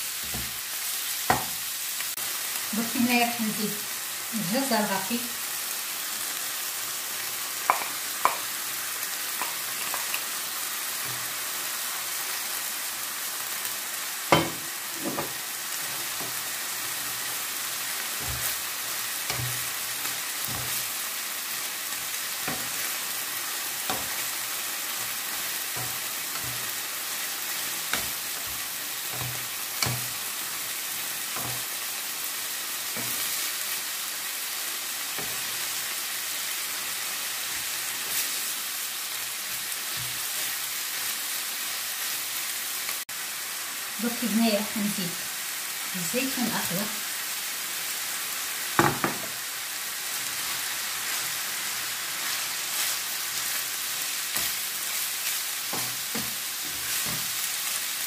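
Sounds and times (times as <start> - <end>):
food sizzling in frying pan: 0.0 - 58.0.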